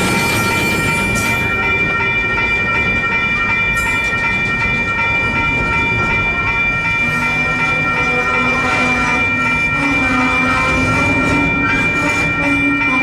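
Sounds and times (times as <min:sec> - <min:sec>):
crossing bells ringing: 0:00.0 - 0:13.0
train cars clanking: 0:00.0 - 0:13.0
train wheels rumbling on rails: 0:00.0 - 0:13.0.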